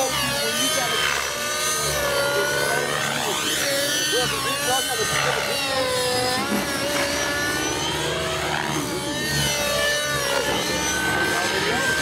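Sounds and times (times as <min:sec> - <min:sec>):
rc helicopter engine and rotors whining: 0:00.0 - 0:12.0.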